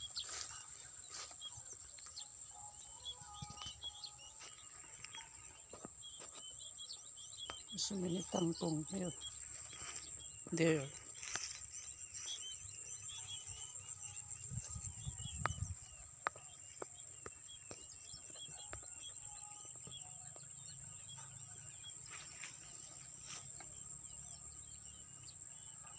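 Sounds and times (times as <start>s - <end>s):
high-pitched insect hum: 0.0s - 25.9s
small birds chirping: 0.0s - 25.9s.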